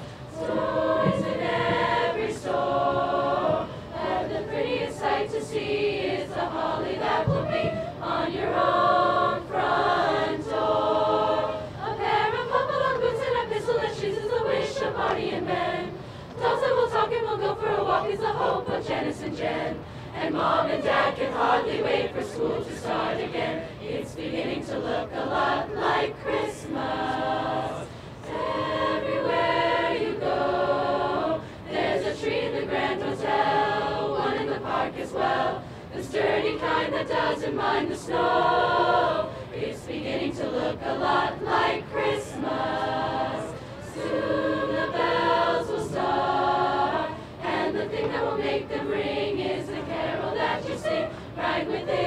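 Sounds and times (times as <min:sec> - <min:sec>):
choir singing in harmony: 0:00.0 - 0:52.0.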